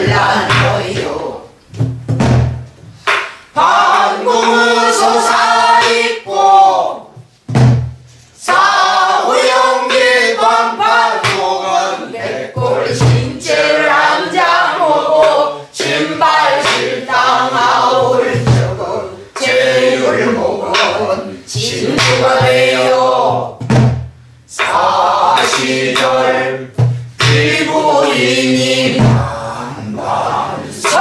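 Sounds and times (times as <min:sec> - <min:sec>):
deep drum strokes: 0:00.0 - 0:06.1, 0:07.2 - 0:31.0.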